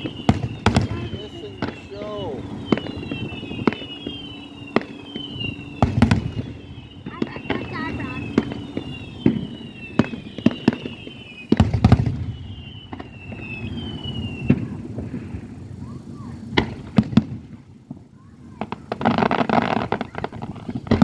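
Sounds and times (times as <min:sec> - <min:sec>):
falling firework whistles: 0:00.0 - 0:21.0
fireworks bangs and cracks: 0:00.0 - 0:21.0.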